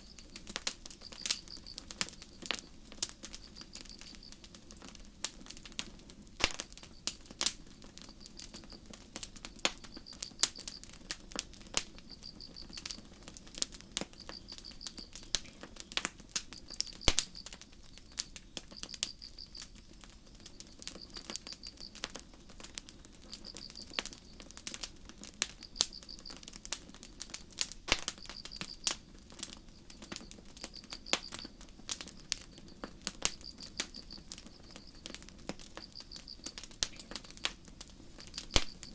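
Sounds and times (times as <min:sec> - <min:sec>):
crickets chirping: 0:00.0 - 0:04.5, 0:06.5 - 0:38.9
campfire crackling and popping: 0:00.0 - 0:38.9.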